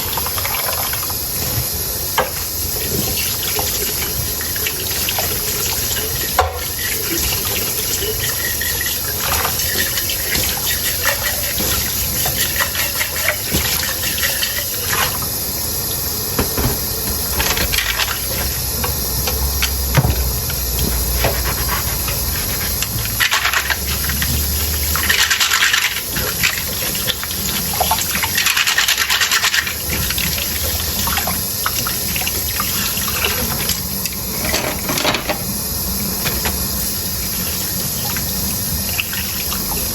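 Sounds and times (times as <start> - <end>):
water splashing into sink: 0.0 - 39.9.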